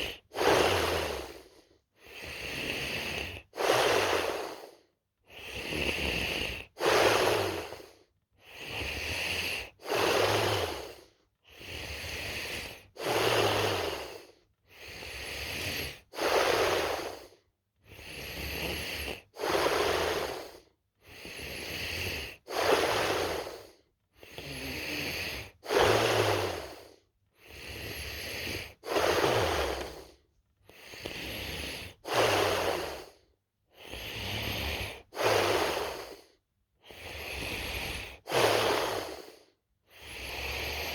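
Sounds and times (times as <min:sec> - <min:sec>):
person snoring: 0:00.0 - 0:17.3, 0:17.9 - 0:40.9.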